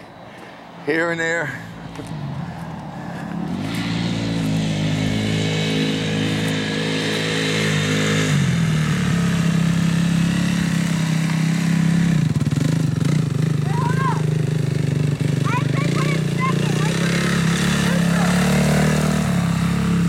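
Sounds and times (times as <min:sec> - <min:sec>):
dirt bike engine running: 0:01.4 - 0:20.0.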